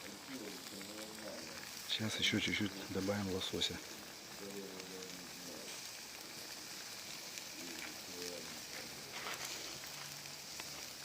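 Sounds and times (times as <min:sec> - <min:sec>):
campfire hissing and crackling: 0:00.0 - 0:11.0.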